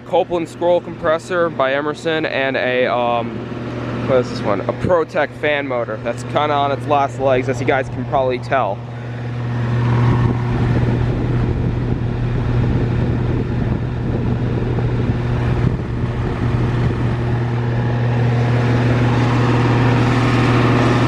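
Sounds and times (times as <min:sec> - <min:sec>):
air conditioner compressor humming: 0:00.0 - 0:21.0
condenser fan rushing: 0:00.0 - 0:21.0.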